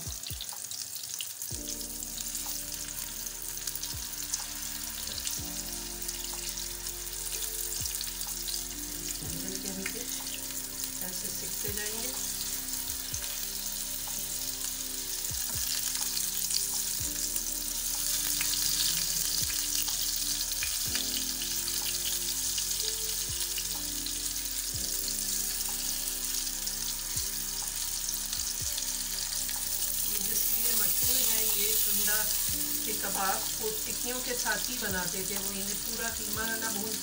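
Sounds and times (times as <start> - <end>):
background music: 0.0 - 37.0
patties sizzling in oil: 0.0 - 37.0.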